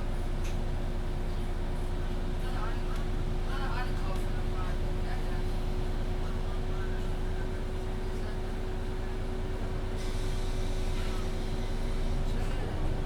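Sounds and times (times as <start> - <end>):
bus engine whine and rumble: 0.0 - 13.0.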